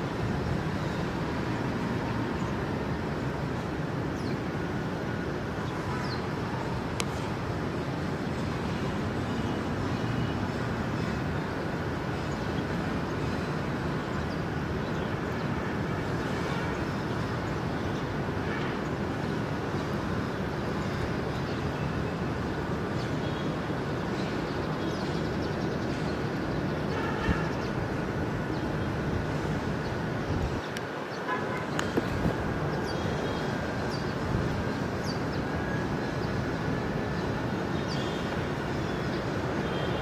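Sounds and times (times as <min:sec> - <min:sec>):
distant airport and road traffic: 0:00.0 - 0:40.0.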